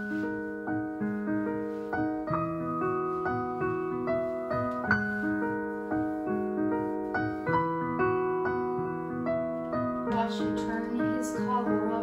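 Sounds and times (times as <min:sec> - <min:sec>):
piano playing repeated chords: 0:00.0 - 0:12.0.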